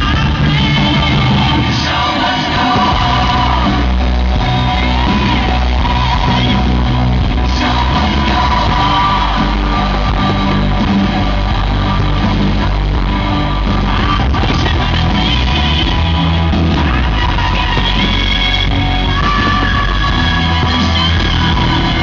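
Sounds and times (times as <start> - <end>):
loud rock music with singing: 0.0 - 22.0.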